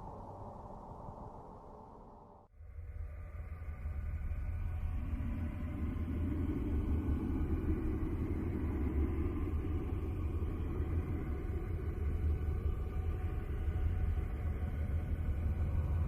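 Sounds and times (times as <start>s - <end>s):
deep steady rumble: 0.0s - 16.0s.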